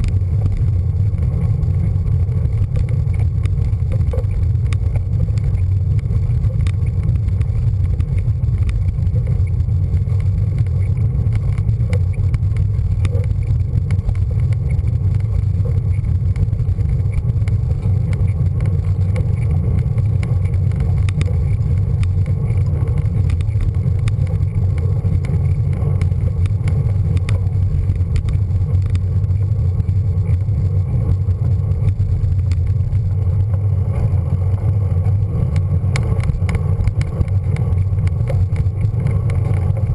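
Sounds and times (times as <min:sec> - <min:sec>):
faint clicks and rattles: 0:00.0 - 0:39.9
wind and road vibration rumble: 0:00.0 - 0:39.9.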